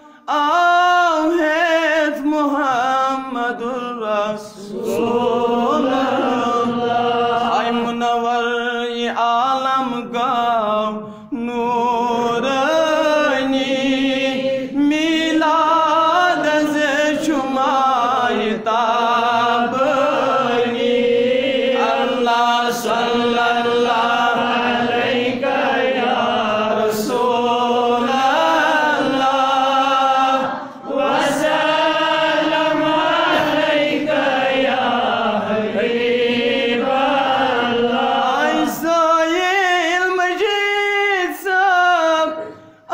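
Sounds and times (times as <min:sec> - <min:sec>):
man singing unaccompanied: 0:00.0 - 0:30.4, 0:31.0 - 0:42.9.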